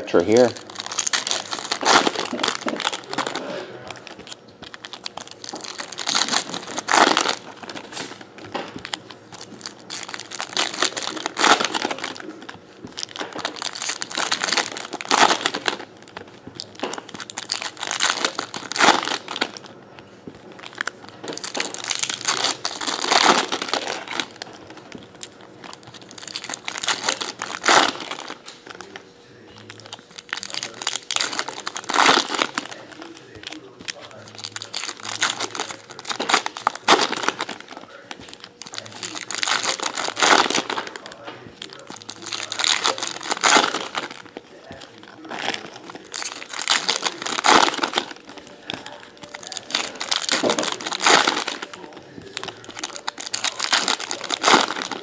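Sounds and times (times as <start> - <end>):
foil wrappers crinkling: 0.0 - 55.0
packs torn open: 0.2 - 19.7, 20.6 - 55.0.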